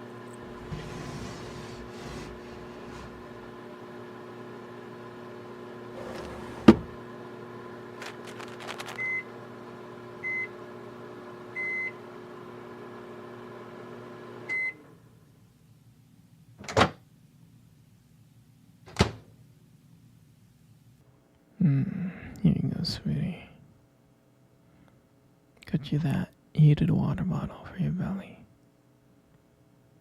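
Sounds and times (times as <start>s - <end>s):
microwave oven humming: 0.0s - 25.5s.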